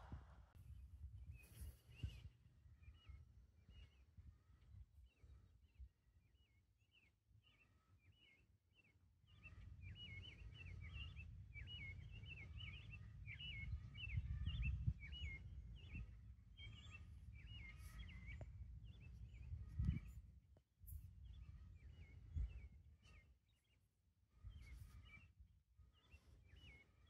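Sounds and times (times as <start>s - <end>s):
faint birdsong chirping: 0.0s - 27.0s.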